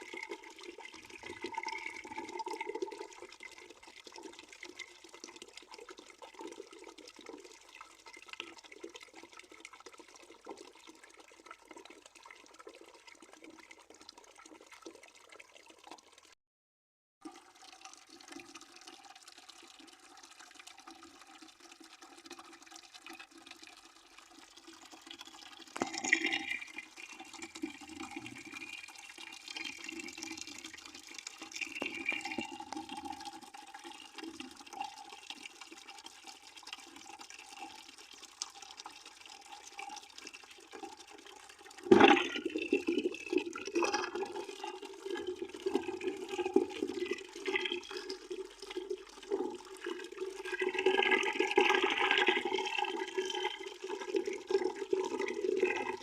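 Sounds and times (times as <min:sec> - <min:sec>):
water pouring into bucket: 0:00.0 - 0:16.4, 0:17.2 - 0:56.0.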